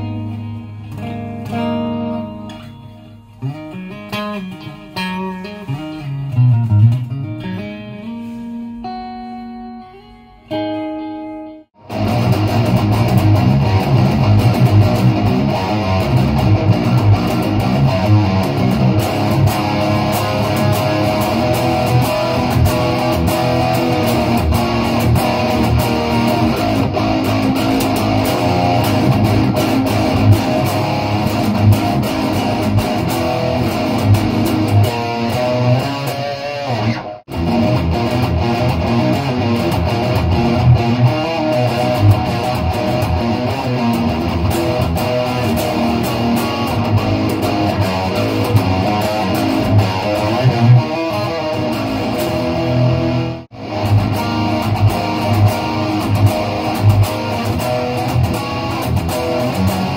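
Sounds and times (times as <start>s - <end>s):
distorted electric guitar riffing: 0.0s - 59.9s.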